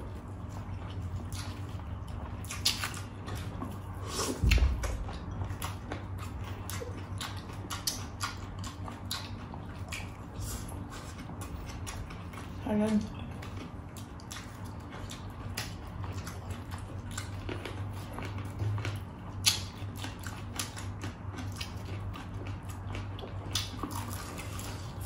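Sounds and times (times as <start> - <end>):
crunching and chewing fried chicken: 0.0 - 25.0
steady low hum: 0.0 - 25.0.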